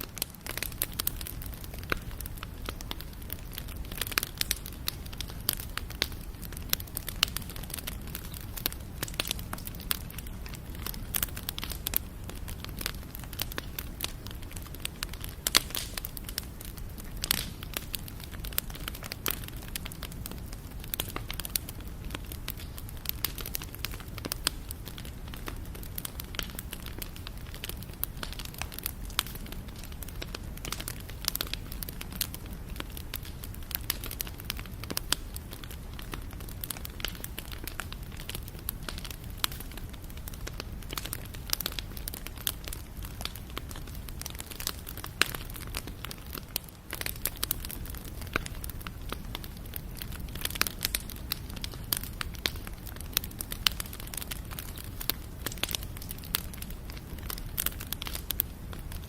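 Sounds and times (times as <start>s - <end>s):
low roar of flames: 0.0s - 59.0s
wood fire crackling and popping: 0.0s - 59.0s.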